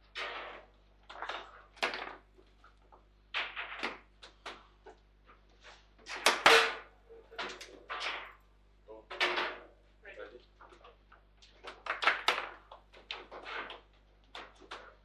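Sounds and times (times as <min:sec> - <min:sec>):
table football balls and players clacking: 0:00.0 - 0:08.4, 0:10.4 - 0:15.0.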